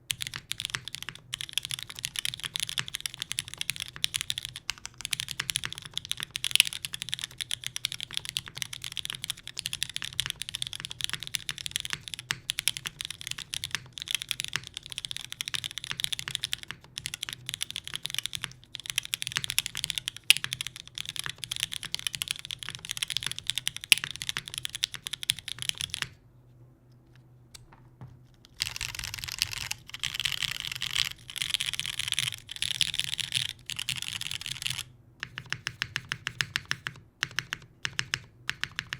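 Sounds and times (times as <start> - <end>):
mechanical keyboard typing: 0.0 - 26.2, 28.5 - 38.9.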